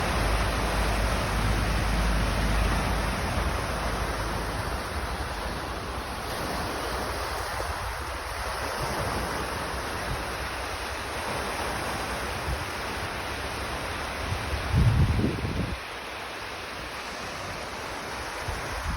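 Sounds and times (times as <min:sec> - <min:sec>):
rushing outdoor noise: 0:00.0 - 0:18.9.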